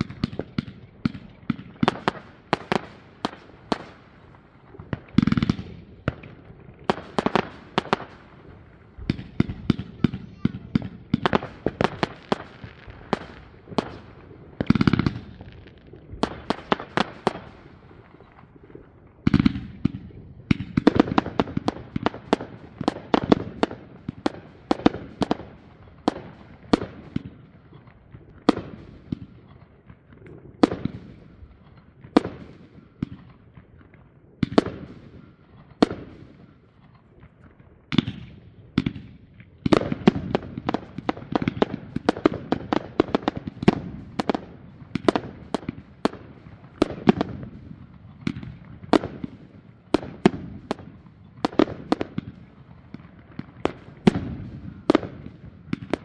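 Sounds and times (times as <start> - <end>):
fireworks bangs: 0.0 - 56.0
fireworks booms: 0.0 - 56.0
rapid fireworks crackling: 0.0 - 56.0.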